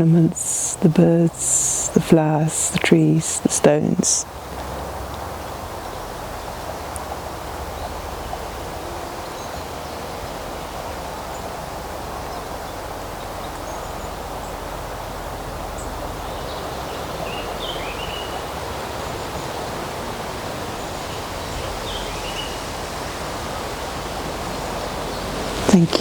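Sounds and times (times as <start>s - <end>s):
wind through trees: 0.0s - 26.0s.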